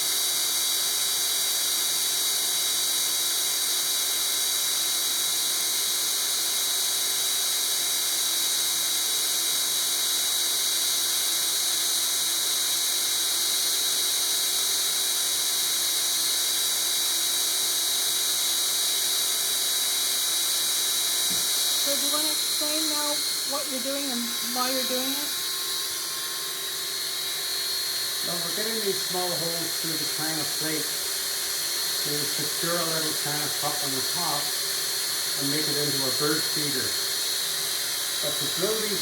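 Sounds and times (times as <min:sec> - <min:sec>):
drill grinding through ceramic plate: 0:00.0 - 0:39.0.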